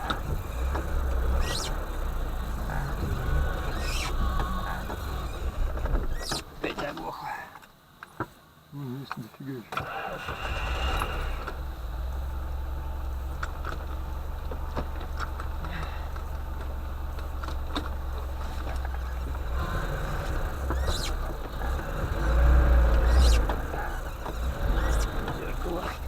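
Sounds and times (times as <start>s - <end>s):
van engine running: 0.0s - 9.0s, 9.8s - 26.0s.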